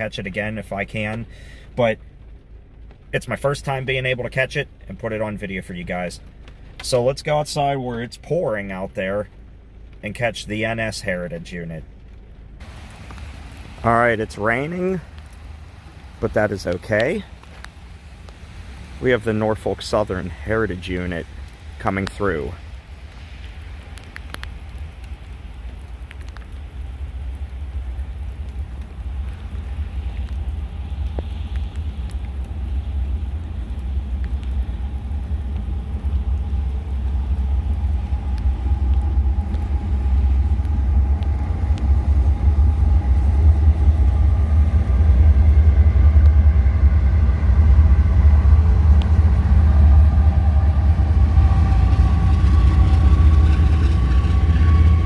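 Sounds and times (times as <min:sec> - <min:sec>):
freight train rumble: 0:00.0 - 0:55.0
locomotive engine tones: 0:00.0 - 0:55.0.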